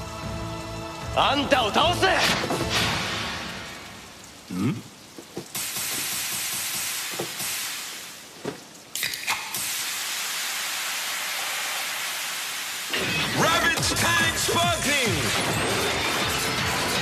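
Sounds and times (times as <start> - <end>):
loud steady hissing: 0.0 - 17.0.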